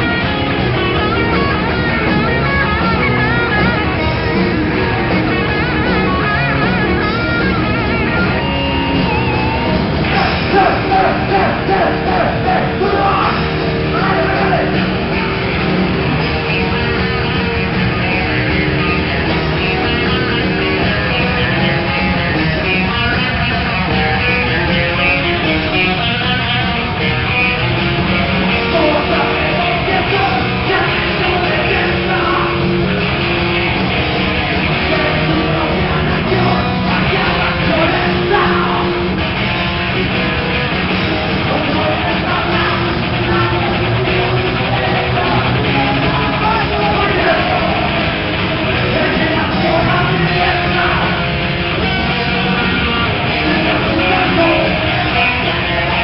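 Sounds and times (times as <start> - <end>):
electric guitar: 0.0 - 56.0
heavy rock band playing live: 0.0 - 56.0.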